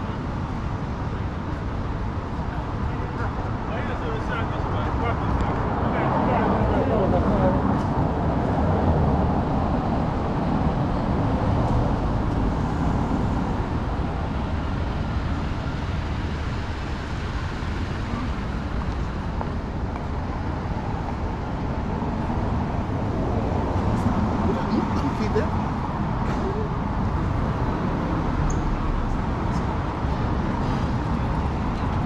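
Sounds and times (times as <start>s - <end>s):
passing cars: 0.0s - 32.0s.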